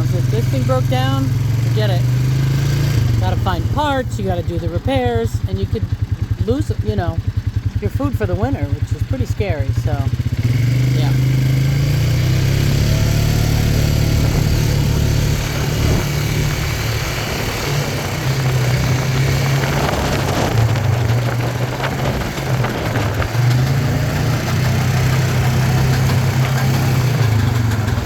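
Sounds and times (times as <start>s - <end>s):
tractor engine droning: 0.0s - 28.0s.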